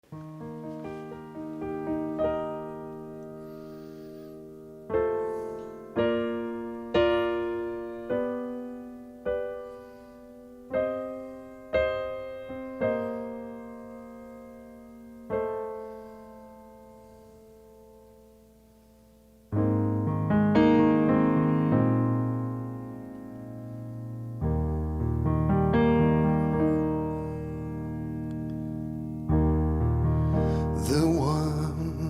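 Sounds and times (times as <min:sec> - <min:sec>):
slow quiet piano music: 0:00.0 - 0:32.0.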